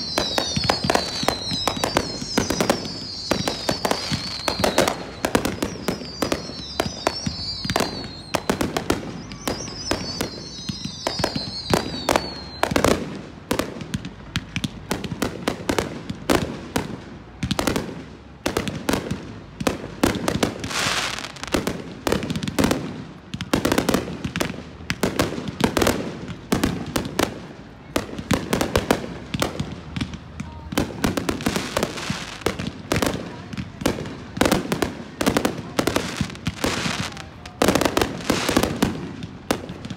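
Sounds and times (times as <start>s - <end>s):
fireworks whistles: 0.0s - 13.2s, 20.0s - 39.9s
fireworks bangs and crackling: 0.0s - 39.9s.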